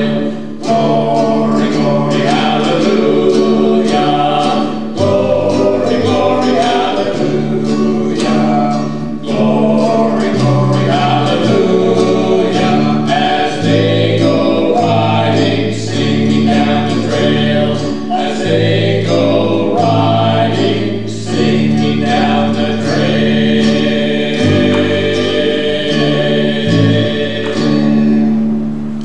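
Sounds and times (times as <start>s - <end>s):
men singing in harmony: 0.0s - 28.3s
strummed acoustic guitar: 0.0s - 29.0s
ukulele: 0.0s - 29.0s.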